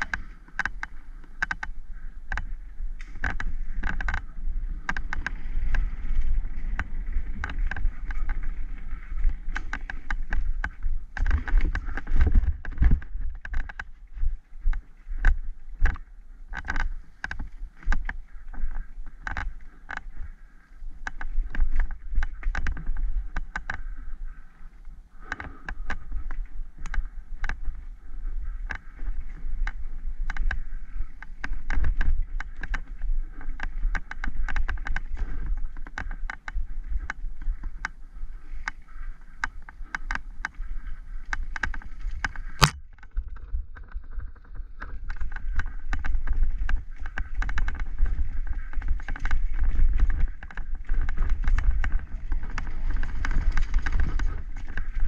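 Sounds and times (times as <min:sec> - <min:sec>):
rumble of bike tyres: 0:00.0 - 0:55.0
wind on microphone: 0:00.0 - 0:55.0.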